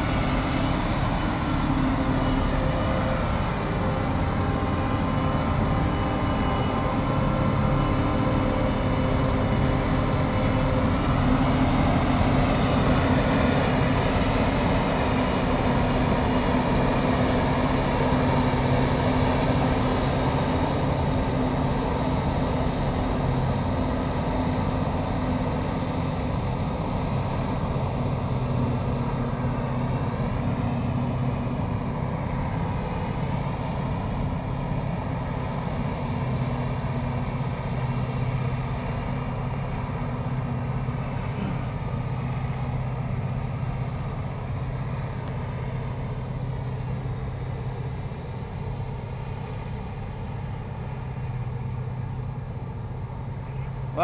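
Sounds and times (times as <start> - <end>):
harvester engine droning: 0.0 - 54.0.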